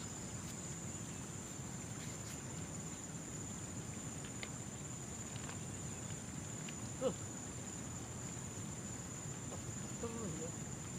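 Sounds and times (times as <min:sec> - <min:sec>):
crickets trilling: 0:00.0 - 0:10.9
low background noise: 0:00.0 - 0:10.9.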